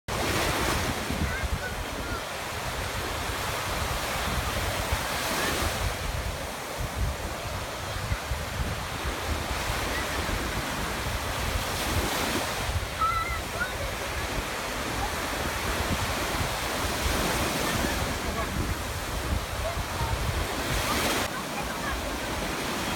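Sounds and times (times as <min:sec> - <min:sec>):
waves breaking and washing: 0:00.1 - 0:22.9
wind buffeting microphone: 0:00.1 - 0:22.9.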